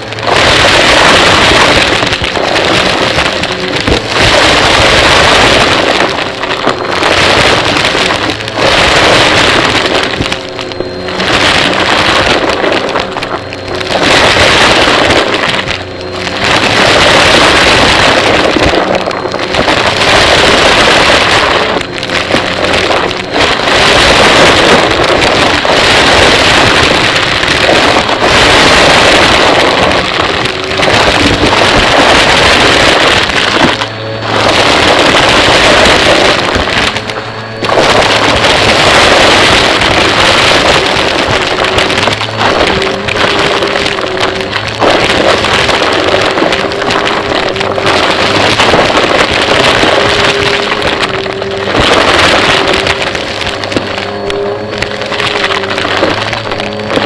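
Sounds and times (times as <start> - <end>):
vacuum cleaner running: 0.0 - 44.8, 50.0 - 51.7, 52.6 - 57.0.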